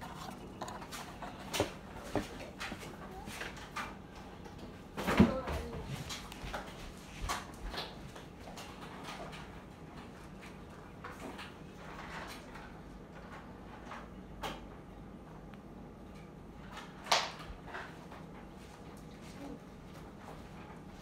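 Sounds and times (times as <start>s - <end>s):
ceiling fan humming: 0.0s - 21.0s.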